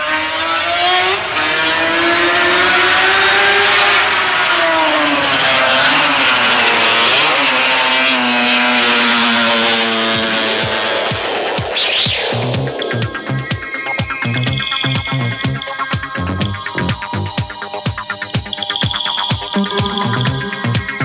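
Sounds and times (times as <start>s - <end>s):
racing engine at high revs: 0.0s - 21.0s.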